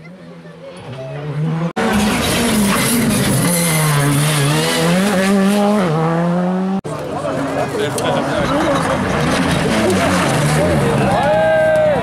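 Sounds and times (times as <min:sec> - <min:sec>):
rally car engine at high revs: 0:00.2 - 0:06.8, 0:07.4 - 0:11.2.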